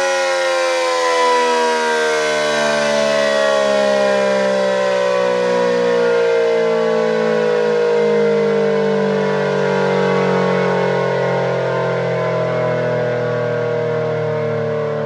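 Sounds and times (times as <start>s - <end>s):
warning siren sliding down: 0.0s - 15.0s.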